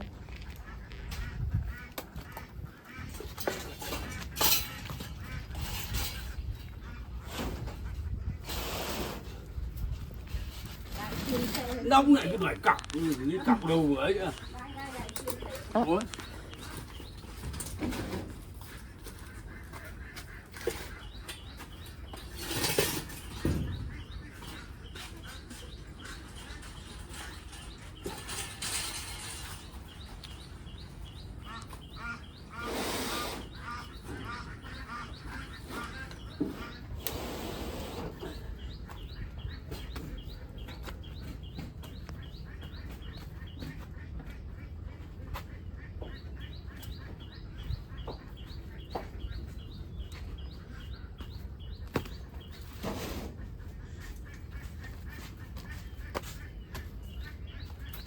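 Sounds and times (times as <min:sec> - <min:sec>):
ducks calling: 0:00.0 - 0:58.0.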